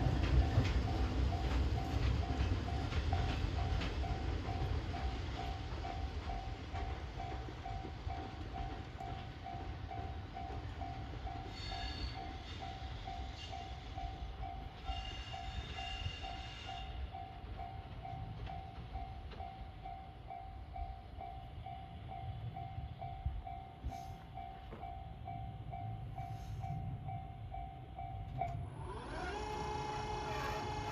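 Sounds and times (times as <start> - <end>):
level-crossing alarm bell ringing: 0.0 - 30.9
train rumbling past: 0.0 - 30.9.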